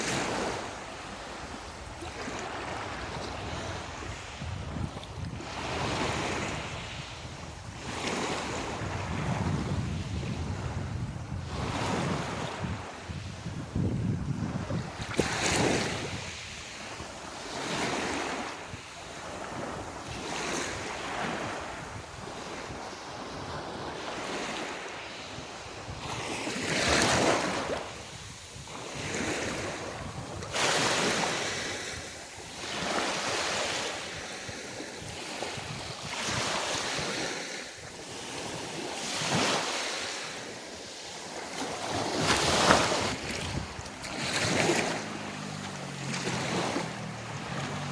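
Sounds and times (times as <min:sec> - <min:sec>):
small waves washing: 0:00.0 - 0:47.9
wind on microphone: 0:00.0 - 0:47.9.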